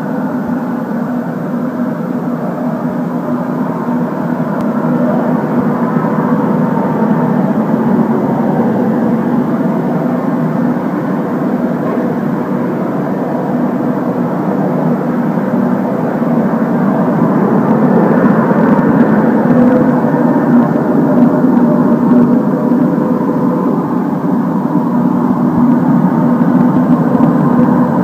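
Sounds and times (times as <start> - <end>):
extrusion machine drone: 0.0 - 28.0.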